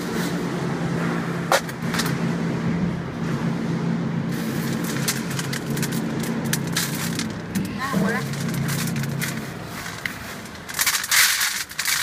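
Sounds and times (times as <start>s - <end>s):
sorting machine humming: 0.0s - 12.0s.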